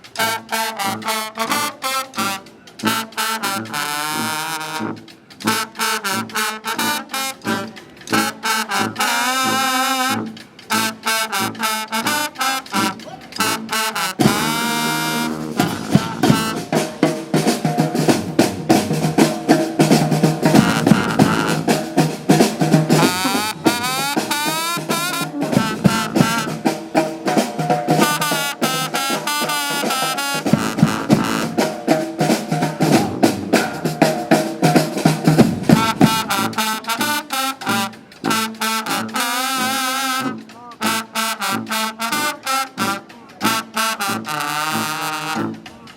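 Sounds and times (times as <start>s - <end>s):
horns playing a tune: 0.0s - 45.9s
snare and bass drum beat: 0.0s - 45.9s.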